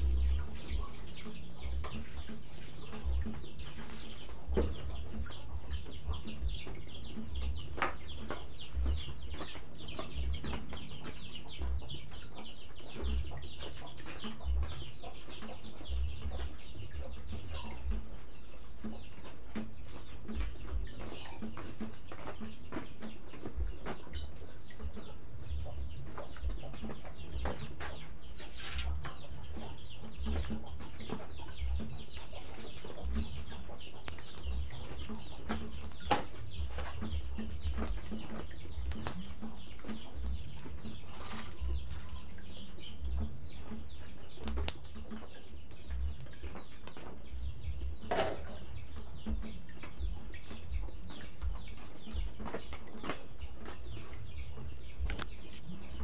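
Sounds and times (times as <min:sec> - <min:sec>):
dense crackles and clicks: 0:00.0 - 0:18.0, 0:24.8 - 0:56.0
chickens clucking: 0:00.0 - 0:56.0
chicks peeping: 0:00.0 - 0:56.0.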